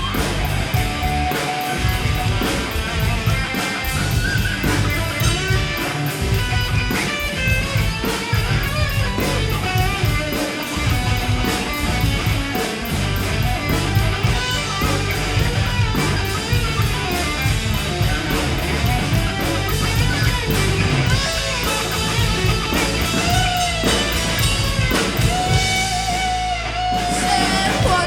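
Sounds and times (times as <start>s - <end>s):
drum kit steady beat: 0.0s - 28.0s
electric guitar: 0.0s - 28.0s.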